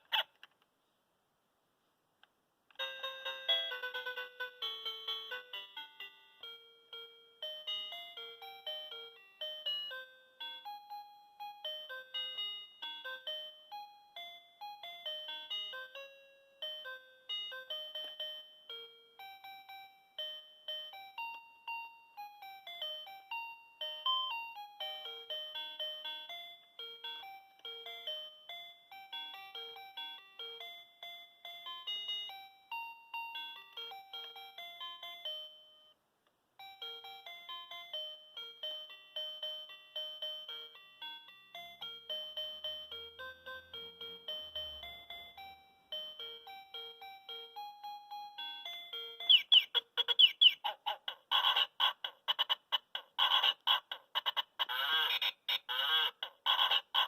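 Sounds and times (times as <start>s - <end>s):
toy electronic keyboard melody: 2.8s - 36.0s, 36.6s - 57.0s.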